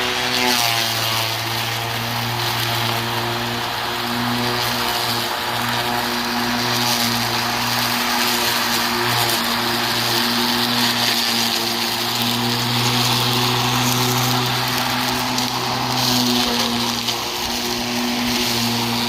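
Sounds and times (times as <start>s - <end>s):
blade rushing through grass: 0.0s - 19.0s
lawn mower motor hum: 0.0s - 19.0s.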